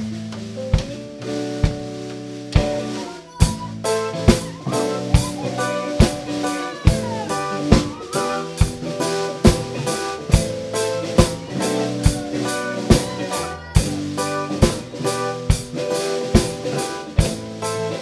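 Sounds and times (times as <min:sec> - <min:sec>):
drum kit beat: 0:00.0 - 0:18.0
electric guitar chords: 0:00.0 - 0:18.0
keyboard chords: 0:00.0 - 0:18.0.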